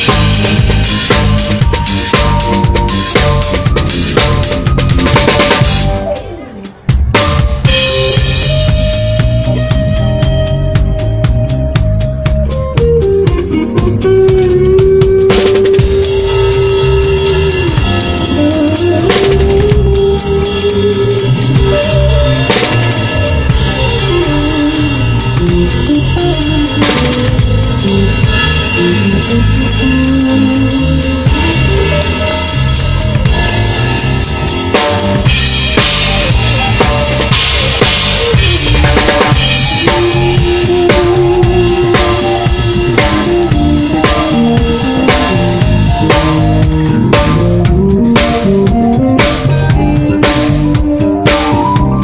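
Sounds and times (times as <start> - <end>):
fusion band playing: 0.0 - 52.0.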